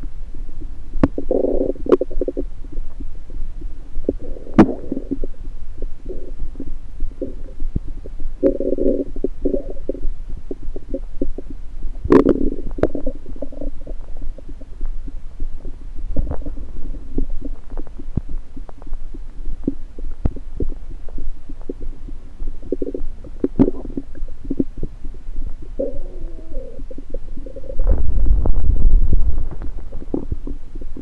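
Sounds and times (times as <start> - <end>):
stomach gurgling and rumbling: 0.0 - 31.0
bubbling pops and crackles: 4.0 - 5.4, 6.0 - 31.0.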